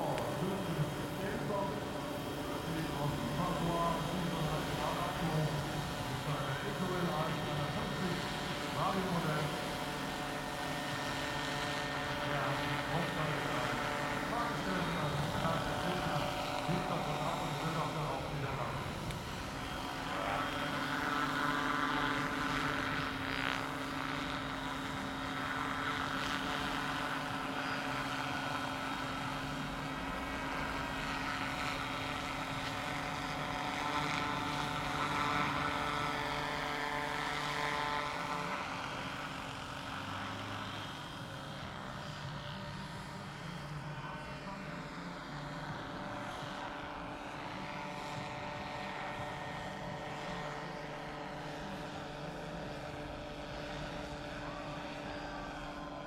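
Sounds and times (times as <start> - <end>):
model helicopter whine: 0.0 - 56.0.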